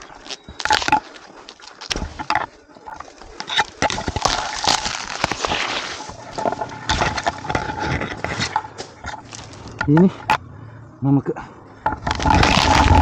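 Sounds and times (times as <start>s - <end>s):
palm fronds rustling and snapping: 0.0s - 10.3s, 12.0s - 13.0s.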